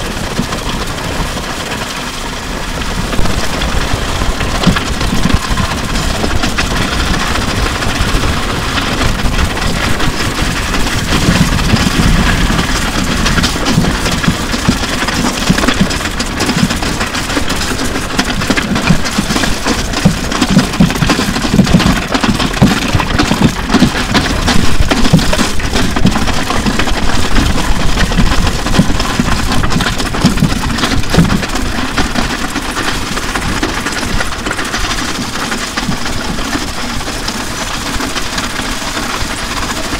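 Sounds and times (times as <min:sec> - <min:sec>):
drums and guitar knocking on road: 0:03.1 - 0:39.9.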